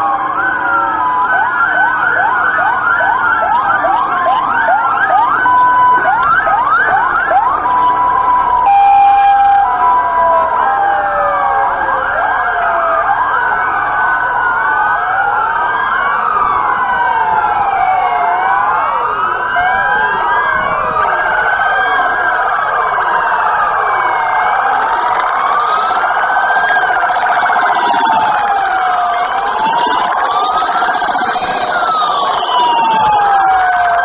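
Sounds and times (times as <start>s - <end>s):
police sirens wailing: 0.0s - 34.0s.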